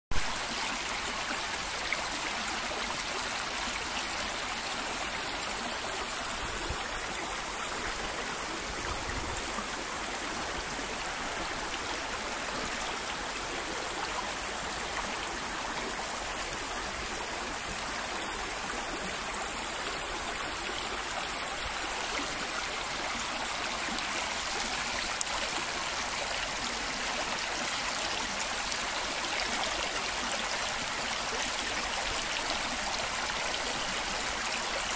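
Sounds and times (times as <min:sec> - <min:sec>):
brook trickling over rocks: 0:00.8 - 0:34.9.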